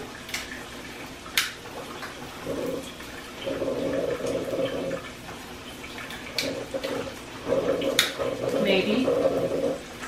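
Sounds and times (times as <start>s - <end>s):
water heating on stove: 0.0s - 10.0s.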